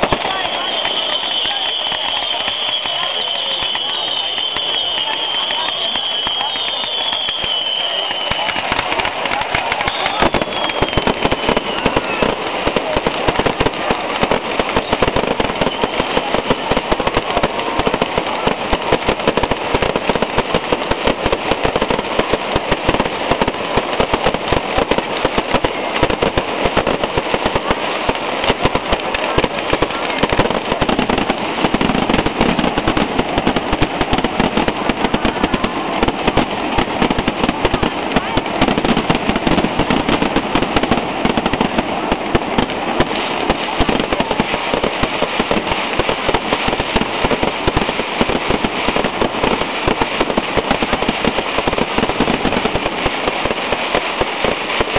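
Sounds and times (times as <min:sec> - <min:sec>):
falling firework whistle: 0:00.0 - 0:51.0
fireworks bangs and crackling: 0:00.0 - 0:54.9.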